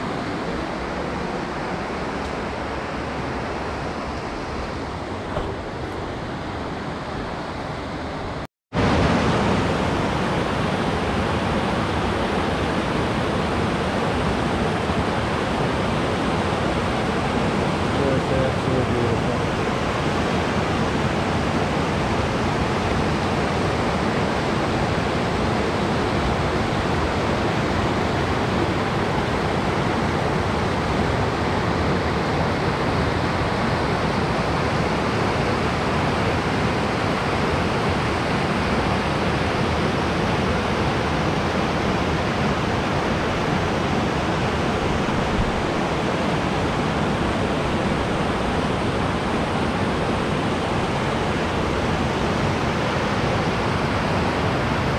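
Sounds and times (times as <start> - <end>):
stream rushing over rocks: 0.0 - 54.9.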